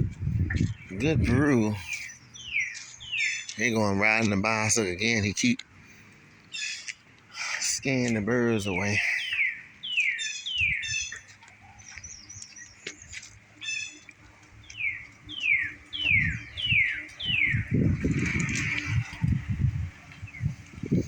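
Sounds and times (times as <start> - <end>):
low irregular rumble: 0.0 - 9.1, 13.0 - 21.0
songbirds calling: 0.0 - 21.0.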